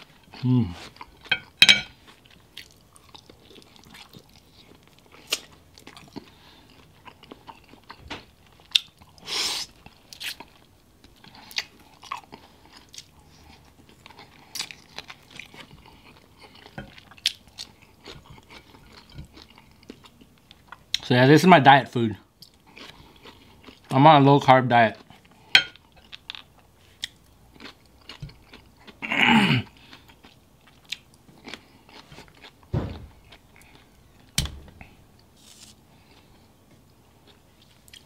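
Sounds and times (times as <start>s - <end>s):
chewing and biting food: 0.1s - 9.2s, 9.8s - 21.1s, 22.4s - 23.9s, 24.9s - 29.0s, 29.6s - 34.4s.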